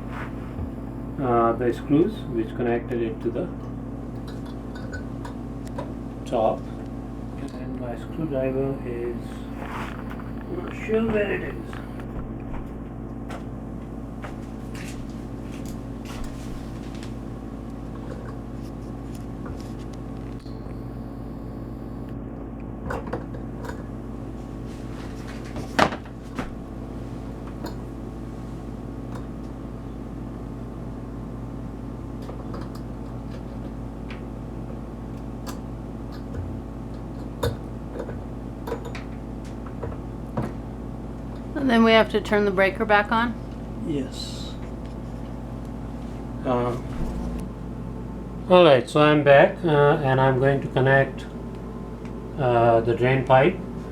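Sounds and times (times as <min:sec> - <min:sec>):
steady hum with even tones: 0:00.0 - 0:53.9.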